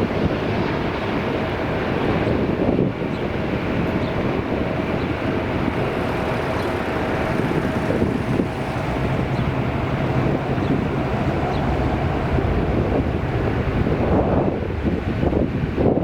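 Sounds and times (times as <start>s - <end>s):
jet engines on approach: 0.0s - 16.0s
wind buffeting microphone: 0.0s - 16.0s.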